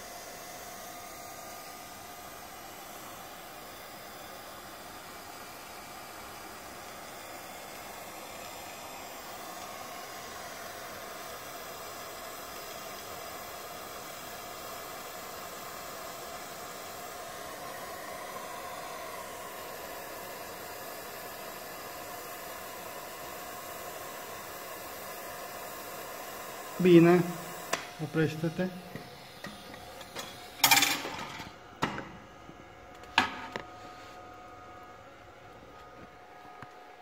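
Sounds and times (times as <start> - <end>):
welding arc hissing: 0.0 - 32.0.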